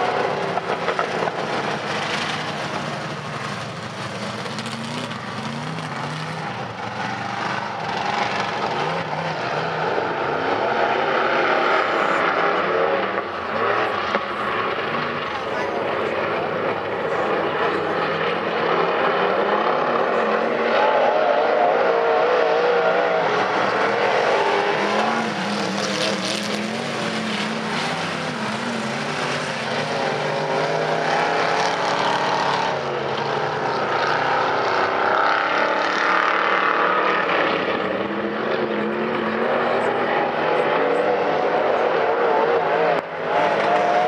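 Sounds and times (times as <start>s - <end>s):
race car engines revving: 0.0s - 44.0s.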